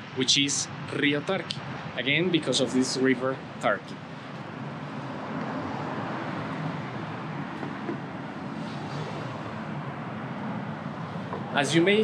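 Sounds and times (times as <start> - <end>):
traffic rushing past: 0.0 - 12.0.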